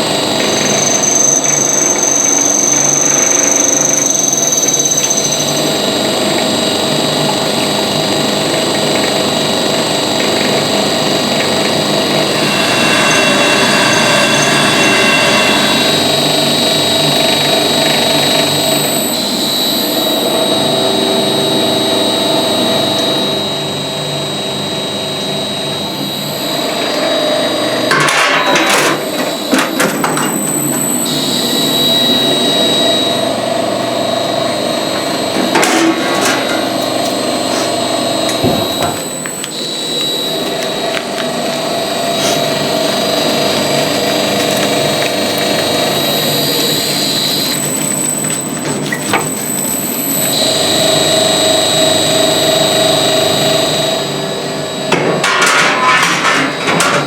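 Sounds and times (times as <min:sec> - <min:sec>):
machine motor whining: 0:00.0 - 0:54.6.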